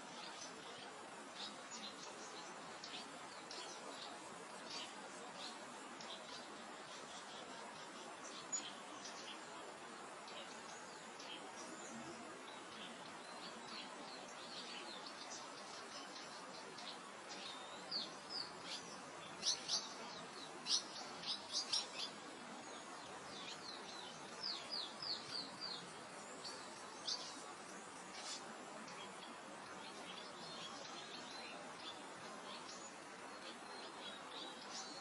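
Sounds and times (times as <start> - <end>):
songbirds chirping: 0.0 - 35.0
wind through grass: 0.0 - 35.0.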